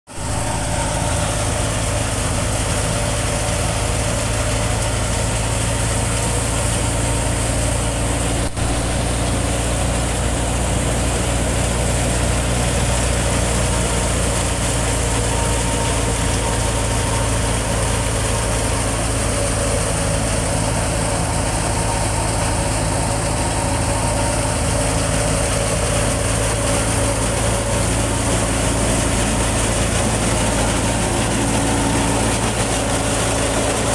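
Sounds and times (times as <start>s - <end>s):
thresher machine droning: 0.1s - 33.9s.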